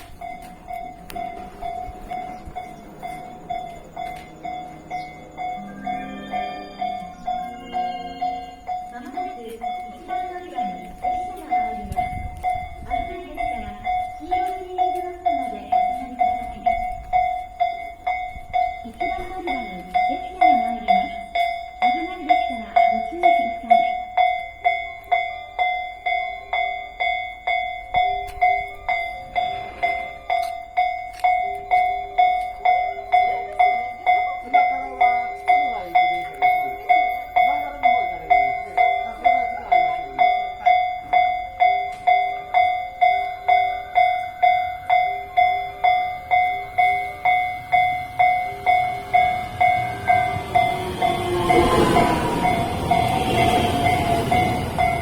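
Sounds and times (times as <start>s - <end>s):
level crossing bell ringing: 0.0s - 55.0s
train running noise: 0.0s - 55.0s.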